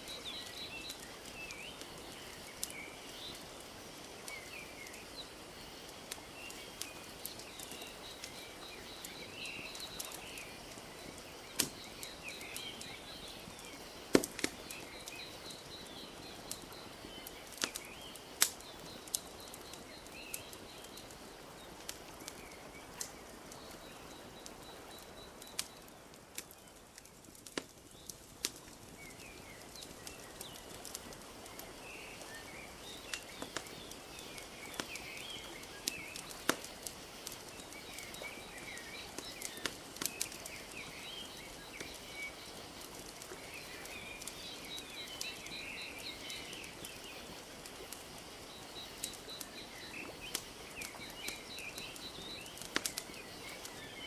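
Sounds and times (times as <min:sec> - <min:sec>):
small birds chirping: 0:00.0 - 0:54.0
wood fire crackling: 0:00.0 - 0:54.0.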